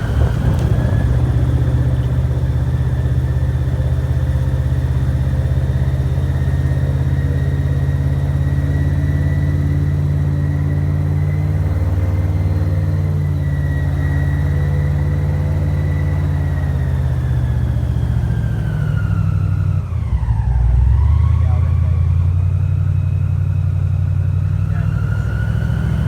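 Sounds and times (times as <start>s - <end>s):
airboat engine droning: 0.0s - 22.7s.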